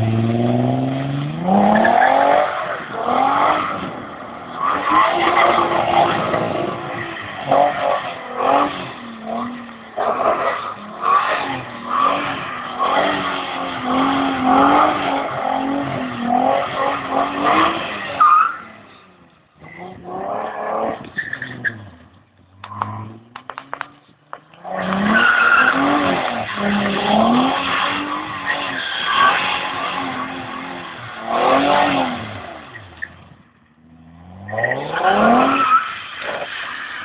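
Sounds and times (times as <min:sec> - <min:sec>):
car engine revving: 0:00.0 - 0:36.8
tyres skidding: 0:00.0 - 0:37.0.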